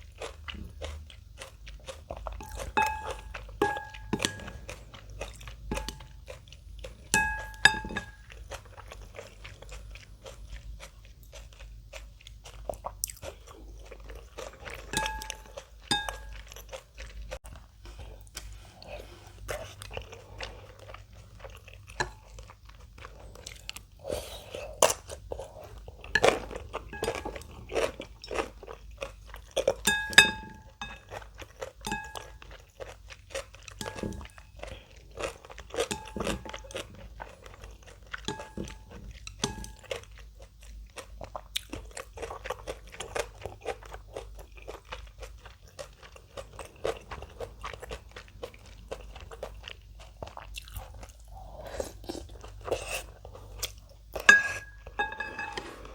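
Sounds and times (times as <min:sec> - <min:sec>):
crunchy chewing: 0:00.0 - 0:29.9, 0:30.6 - 0:54.9.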